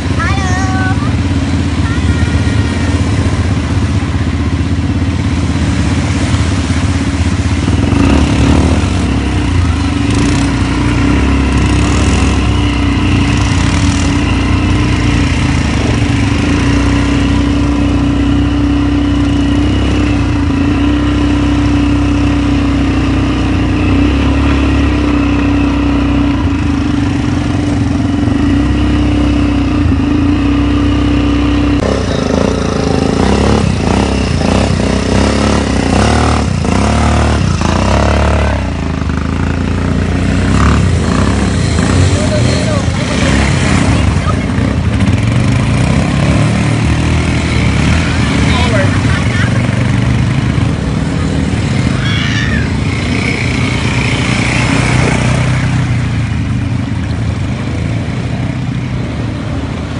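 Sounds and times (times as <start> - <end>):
quad bike engines droning: 0.0 - 59.9.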